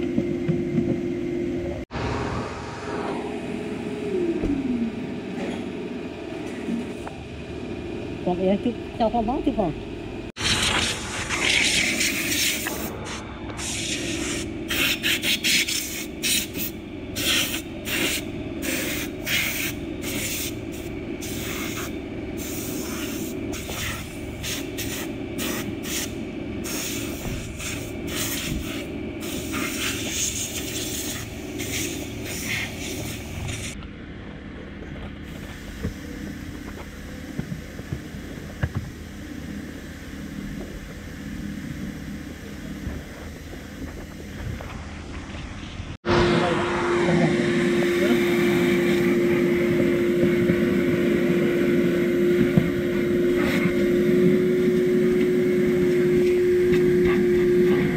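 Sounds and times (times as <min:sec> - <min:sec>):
steady hum: 0:00.0 - 0:57.9.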